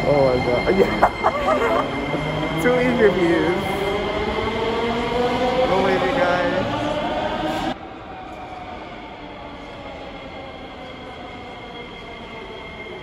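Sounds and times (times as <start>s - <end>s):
metro train approaching: 0.0s - 13.0s.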